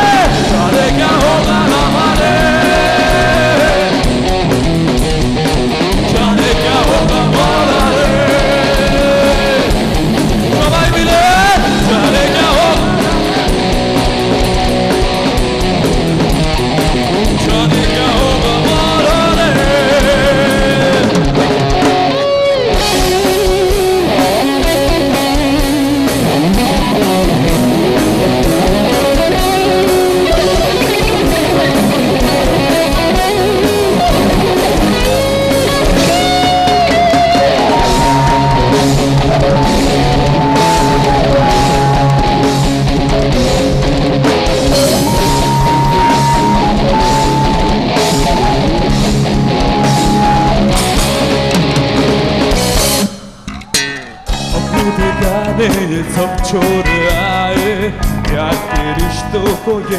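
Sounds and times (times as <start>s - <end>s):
drum kit: 0.0s - 59.9s
electric guitar lead: 0.0s - 59.9s
keyboard: 0.0s - 59.9s.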